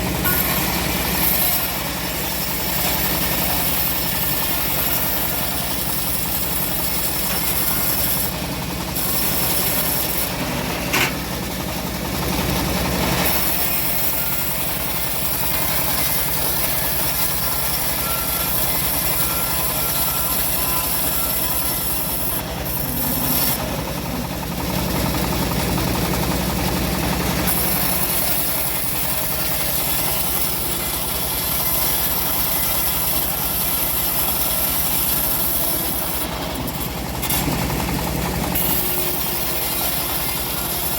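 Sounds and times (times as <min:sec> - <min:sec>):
bandsaw sawmill cutting wood: 0:00.0 - 0:40.9.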